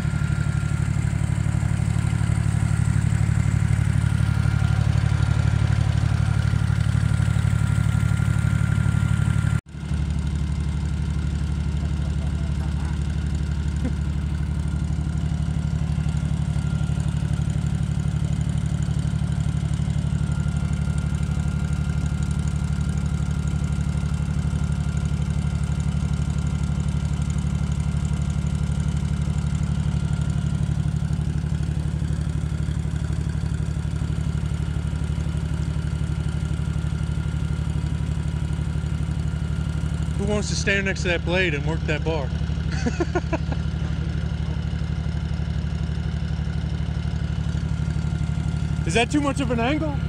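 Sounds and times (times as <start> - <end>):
tractor engine idling: 0.0 - 50.0.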